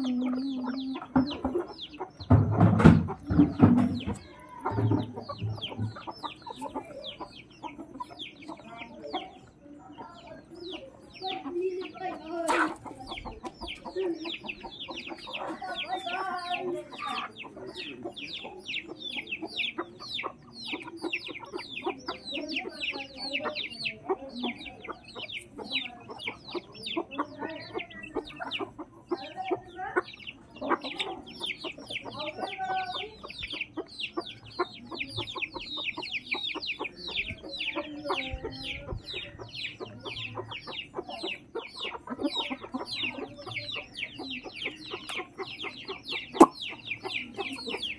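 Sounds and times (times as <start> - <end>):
chicks cheeping: 0.0 - 47.9
hens clucking: 0.0 - 47.9.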